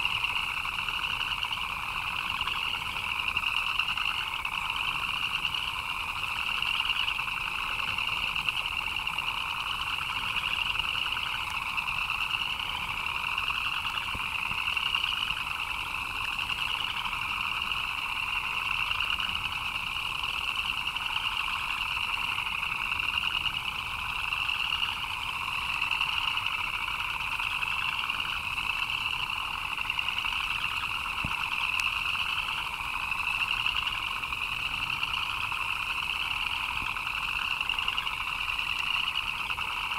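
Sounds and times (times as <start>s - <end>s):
frogs chirping chorus: 0.0s - 39.9s.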